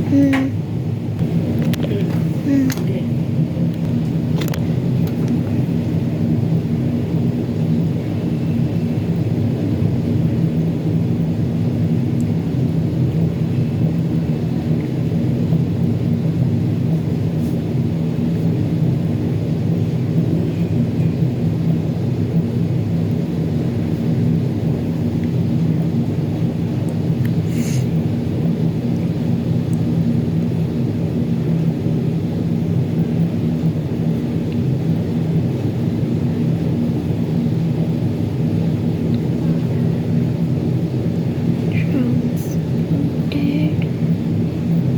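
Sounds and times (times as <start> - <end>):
machine droning hum: 0.0 - 44.9.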